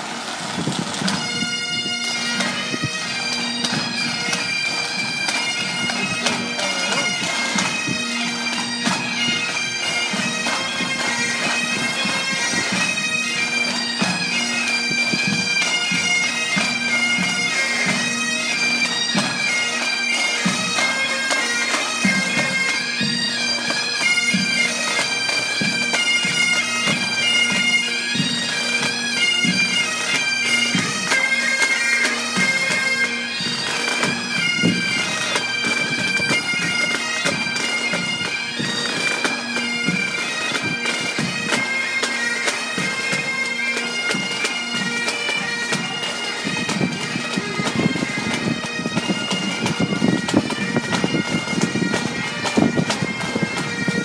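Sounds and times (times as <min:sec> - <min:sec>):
drums beating: 0:00.0 - 0:31.8, 0:32.4 - 0:54.0
bagpipes playing a march: 0:00.0 - 0:54.0.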